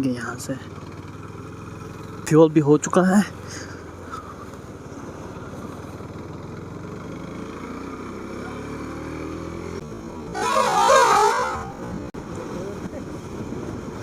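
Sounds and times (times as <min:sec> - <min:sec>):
motorcycle engine pulling away: 0:00.2 - 0:12.1.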